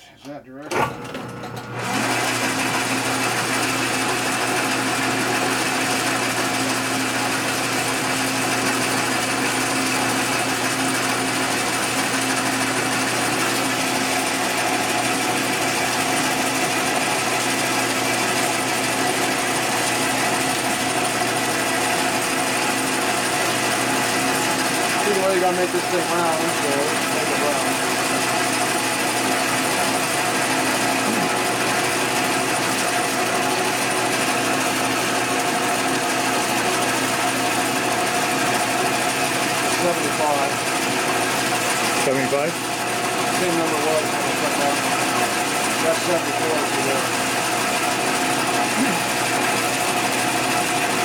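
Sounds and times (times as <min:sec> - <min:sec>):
metal lathe whirring: 0:00.7 - 0:51.0.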